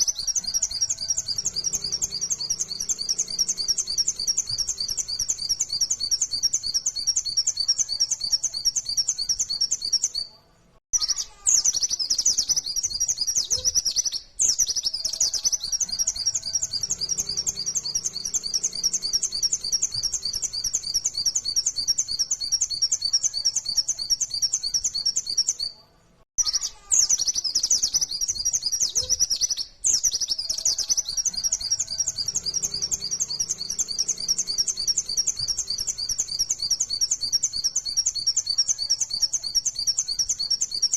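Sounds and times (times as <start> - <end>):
bird singing high chirping notes: 0.0 - 25.8, 26.4 - 40.9.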